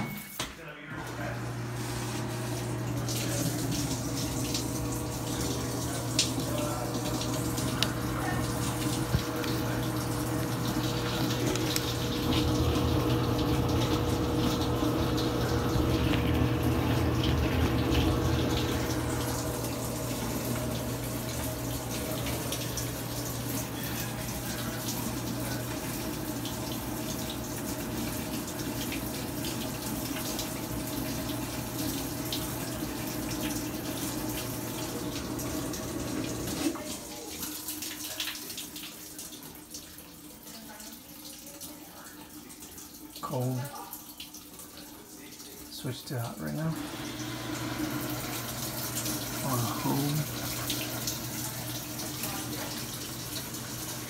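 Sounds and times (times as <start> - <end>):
water rushing into washer tub: 0.9 - 54.0.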